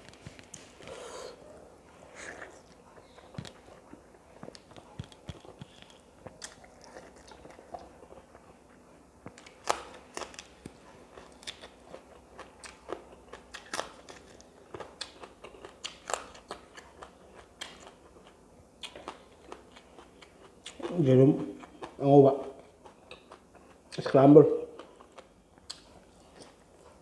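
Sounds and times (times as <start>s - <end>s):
chewing with crunches: 2.0s - 27.0s.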